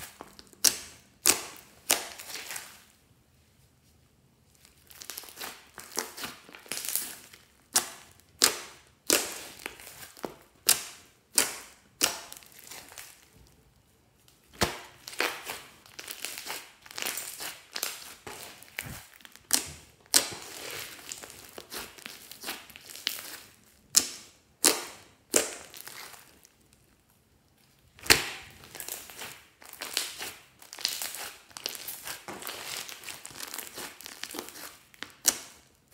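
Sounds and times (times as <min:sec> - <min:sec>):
slime popping and crackling: 0:00.0 - 0:02.8, 0:04.6 - 0:13.3, 0:14.4 - 0:26.9, 0:27.8 - 0:35.9.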